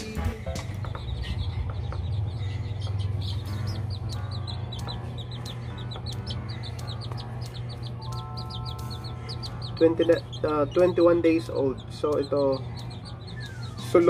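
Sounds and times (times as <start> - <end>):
chick peeping: 0.4 - 14.0.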